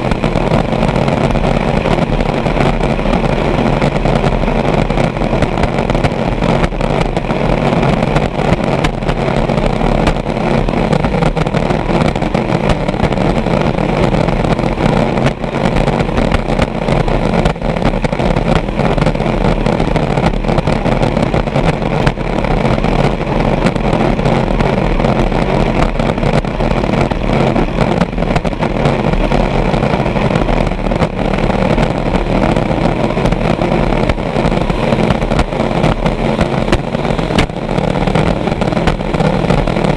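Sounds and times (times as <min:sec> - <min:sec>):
racing boat engine running: 0:00.0 - 0:39.9.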